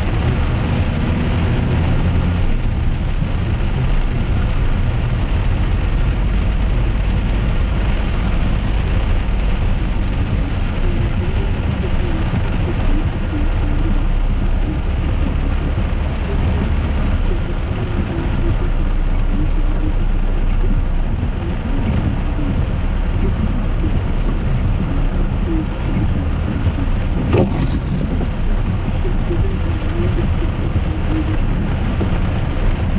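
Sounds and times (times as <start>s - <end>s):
rain on a car: 0.0s - 32.9s
road and engine noise: 0.0s - 32.9s.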